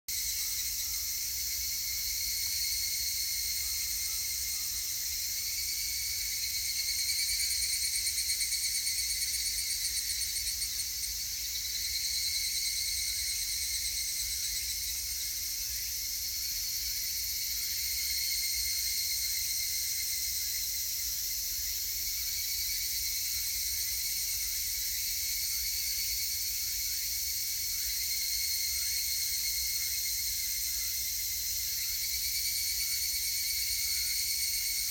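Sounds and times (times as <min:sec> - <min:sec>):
cicadas chorus: 0:00.1 - 0:34.9.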